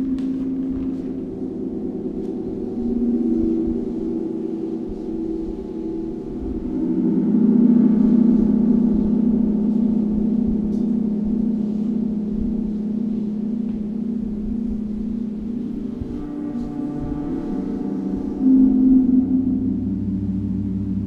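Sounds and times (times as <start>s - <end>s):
gong humming: 0.0s - 21.0s.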